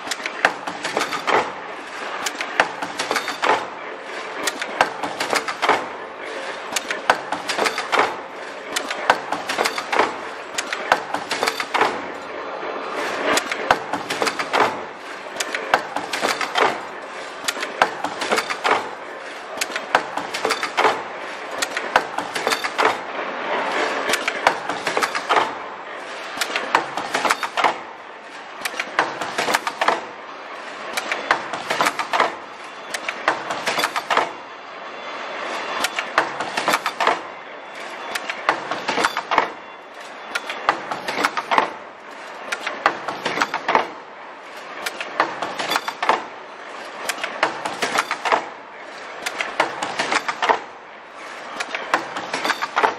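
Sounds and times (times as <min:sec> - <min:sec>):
machine clicking and clacking: 0:00.0 - 0:34.5, 0:35.1 - 0:52.9.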